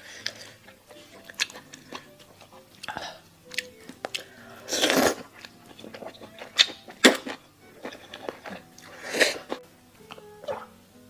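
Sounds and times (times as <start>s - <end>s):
person chewing crunchy food: 0.0s - 10.7s.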